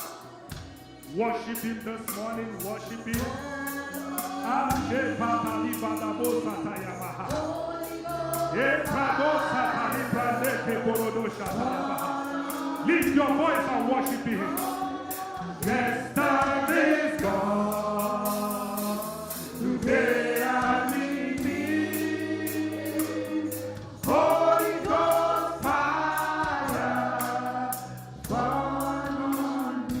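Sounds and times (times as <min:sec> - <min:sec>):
group gospel singing: 0:00.0 - 0:30.0
sustained low instrumental chords: 0:00.0 - 0:30.0
steady ticking beat: 0:00.5 - 0:30.0.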